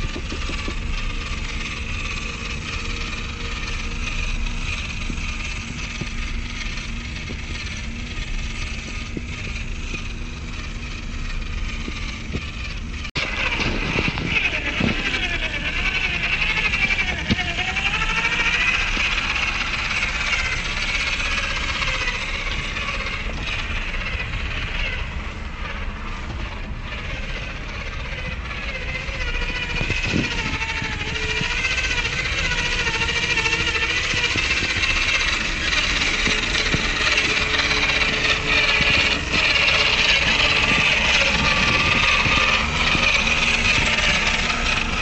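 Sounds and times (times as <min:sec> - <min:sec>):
toy car electric motor whining: 0:00.0 - 0:45.0.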